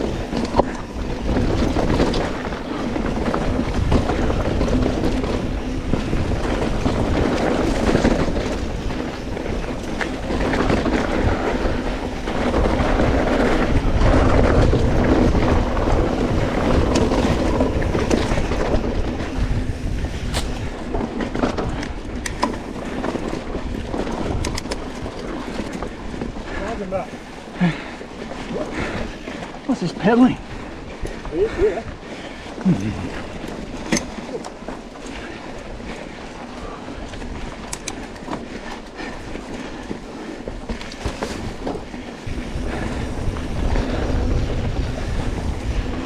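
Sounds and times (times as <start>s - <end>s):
bike clicks and rattles: 0.0s - 46.0s
tyres rumbling over dirt: 0.0s - 46.0s
wind rush on microphone: 0.0s - 46.0s.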